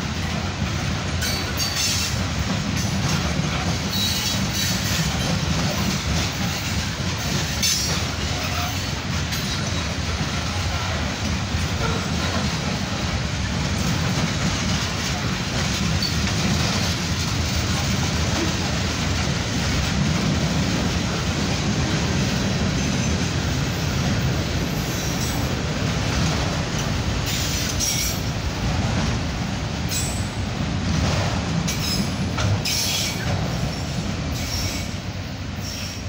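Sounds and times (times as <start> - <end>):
train clanks: 0.0 - 36.0
train wheels rumbling on rail: 0.0 - 36.0.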